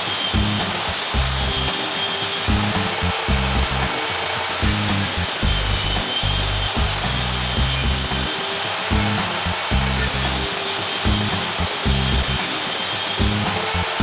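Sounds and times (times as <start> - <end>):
power tool grinding: 0.0 - 14.0
background music with bass beat: 0.2 - 12.6, 13.2 - 14.0.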